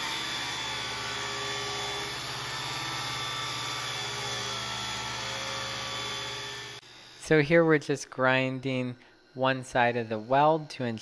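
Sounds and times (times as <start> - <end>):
angle grinder grinding steel: 0.0 - 7.3, 9.4 - 11.0.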